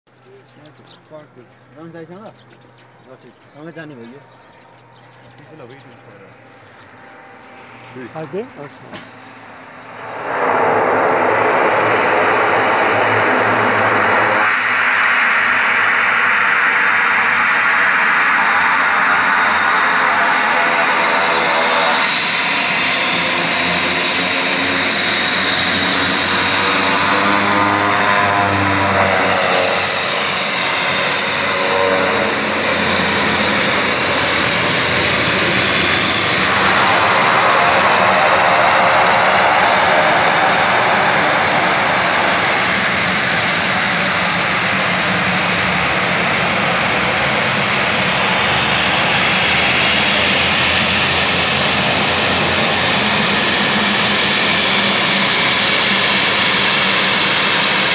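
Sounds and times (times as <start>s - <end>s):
turboprop engines running: 0.1s - 57.9s.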